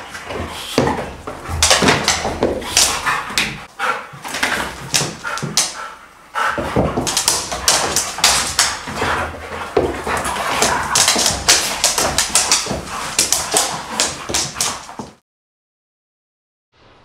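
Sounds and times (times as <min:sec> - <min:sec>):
dogs play-fighting vocalising: 0:00.1 - 0:15.0.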